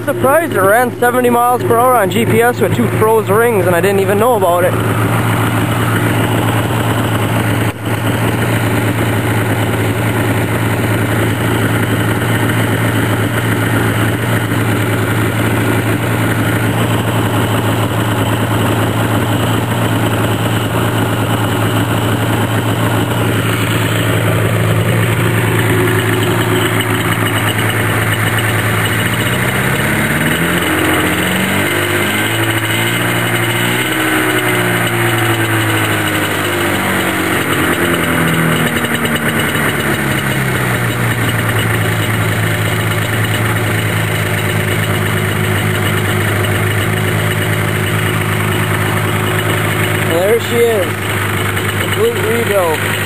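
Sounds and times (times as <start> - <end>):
snowmobile engine idling and revving: 0.0 - 53.0.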